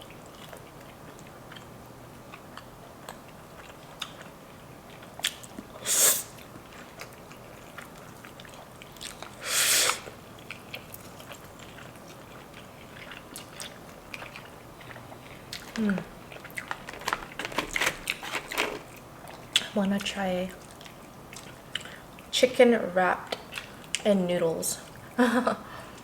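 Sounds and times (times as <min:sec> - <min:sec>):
chewing and biting: 0:00.0 - 0:05.8, 0:06.4 - 0:19.7, 0:20.6 - 0:22.3.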